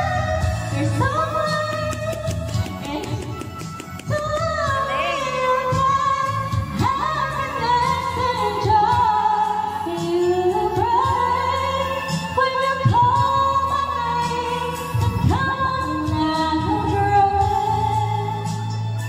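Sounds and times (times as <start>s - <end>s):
backing track music: 0.0s - 19.0s
woman singing karaoke: 0.0s - 19.0s.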